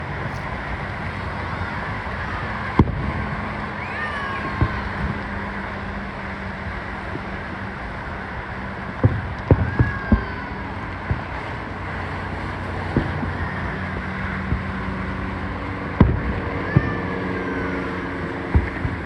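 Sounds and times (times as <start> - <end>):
fireworks bangs: 0.0 - 19.0
outdoor background noise: 0.0 - 19.0
gliding firework whistles: 0.1 - 19.0.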